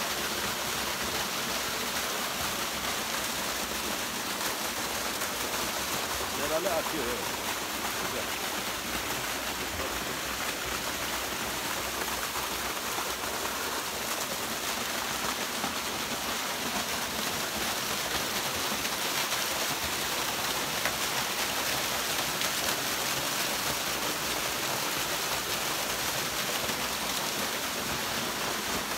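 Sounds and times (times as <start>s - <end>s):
small waterfall splashing into pool: 0.0s - 28.9s.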